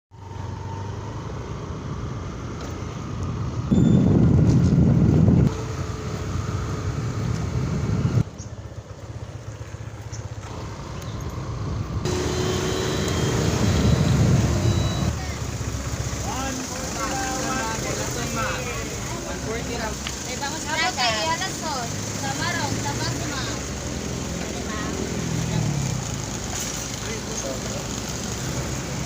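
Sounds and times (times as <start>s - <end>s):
vehicle engine and road noise: 0.1s - 29.0s.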